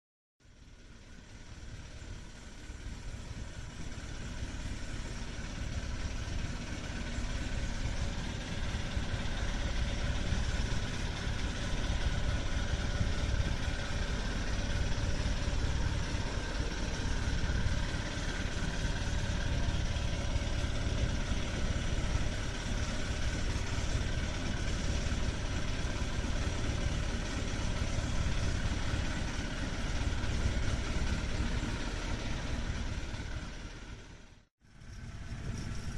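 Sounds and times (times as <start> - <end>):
boat engine idling: 0.4 - 35.9.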